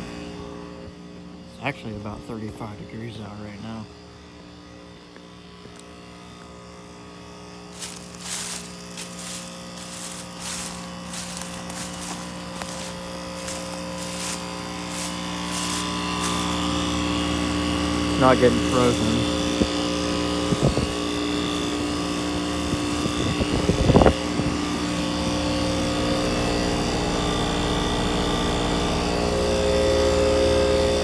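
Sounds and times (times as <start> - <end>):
heat pump buzzing hum: 0.0 - 31.0.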